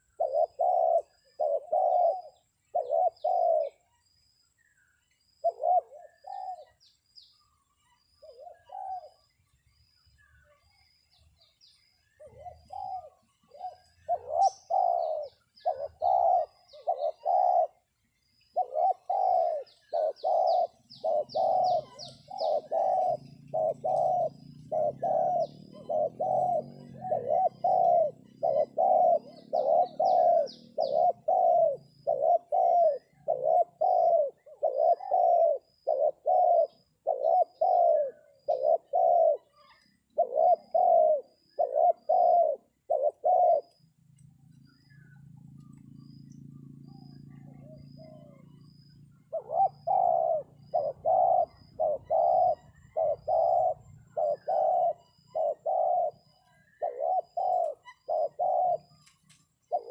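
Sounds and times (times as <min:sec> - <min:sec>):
dove cooing: 0:00.0 - 0:04.0, 0:05.3 - 0:09.4, 0:11.4 - 0:59.9
small bird high chirps: 0:00.0 - 0:59.9.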